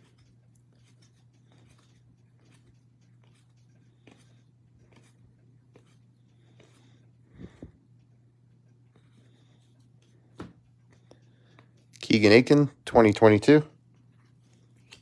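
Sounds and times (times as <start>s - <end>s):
low electrical hum: 0.0s - 15.0s
trading cards rustling and ticking: 0.0s - 15.0s.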